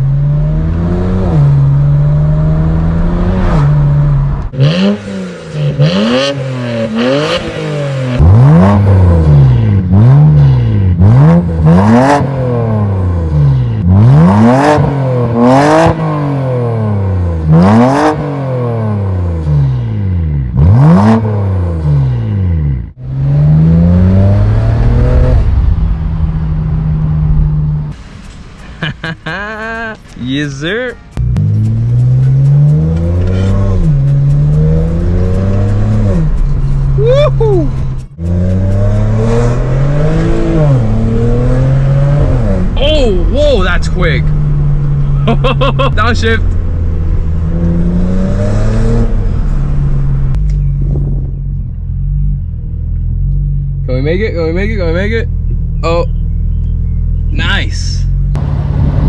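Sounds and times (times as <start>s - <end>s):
car engine revving: 0.0s - 29.4s, 30.0s - 59.0s.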